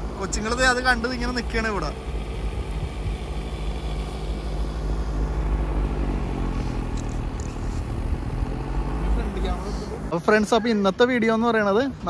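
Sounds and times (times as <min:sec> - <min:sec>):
snow blower engine humming: 0:00.0 - 0:11.4.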